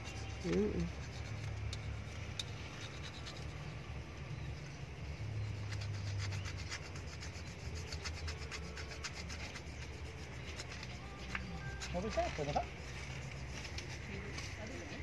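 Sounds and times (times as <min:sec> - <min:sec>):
pencil scratching on paper: 0:00.0 - 0:03.8, 0:05.4 - 0:15.0.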